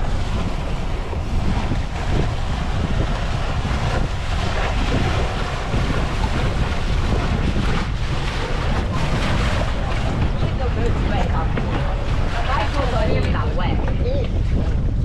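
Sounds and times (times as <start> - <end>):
boat engine running: 0.0 - 15.0
rushing splashing water: 0.0 - 15.0
wind buffeting microphone: 0.0 - 15.0.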